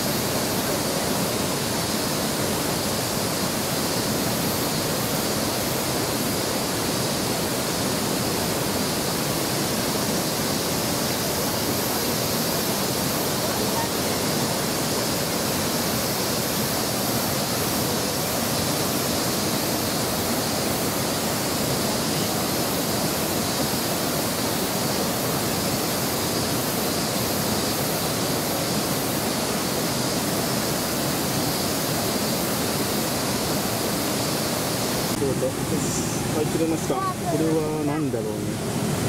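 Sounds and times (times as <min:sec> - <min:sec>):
stream flowing: 0:00.0 - 0:39.0
waterfall rushing: 0:00.0 - 0:39.0.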